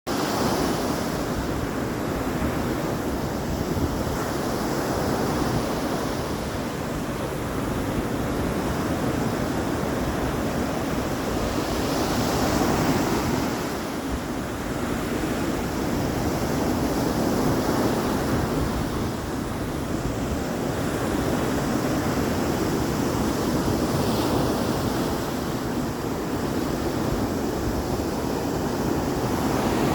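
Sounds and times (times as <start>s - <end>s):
waves washing ashore: 0.1s - 29.9s
wind buffeting microphone: 0.2s - 29.9s.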